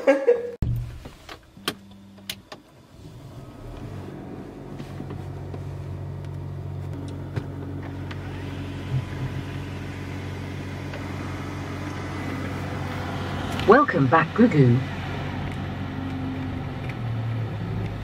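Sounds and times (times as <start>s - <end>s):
car engine idling: 0.6s - 18.0s.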